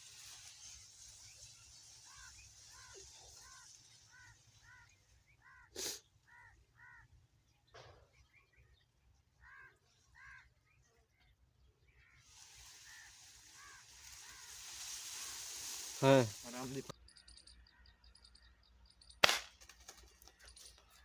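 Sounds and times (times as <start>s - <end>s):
faint bird calls: 0.2s - 8.8s, 9.4s - 18.3s.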